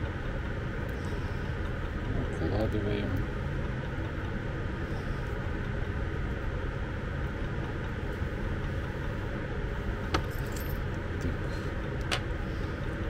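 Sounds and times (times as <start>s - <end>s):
steady low background noise: 0.0s - 13.0s.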